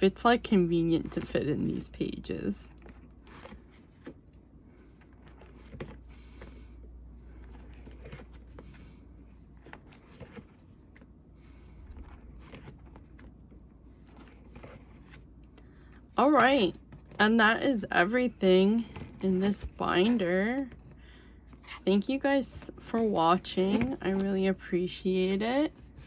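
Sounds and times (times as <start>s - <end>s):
plastic pages rustling: 0.3s - 26.0s.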